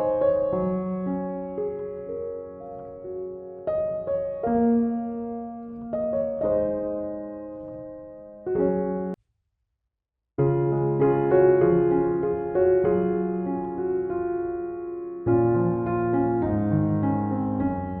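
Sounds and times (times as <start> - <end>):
soft slow piano music: 0.0 - 9.2, 10.4 - 18.0.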